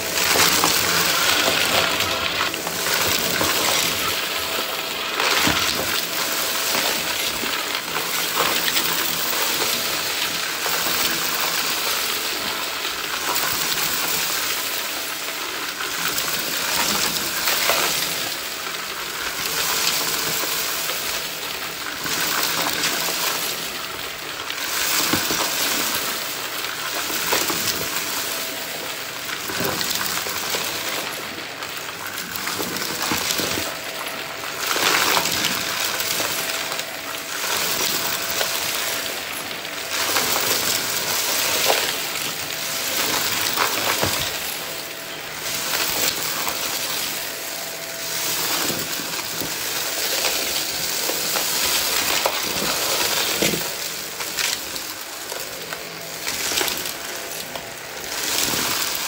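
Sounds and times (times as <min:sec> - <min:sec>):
vacuum cleaner sucking debris: 0:00.0 - 0:59.0.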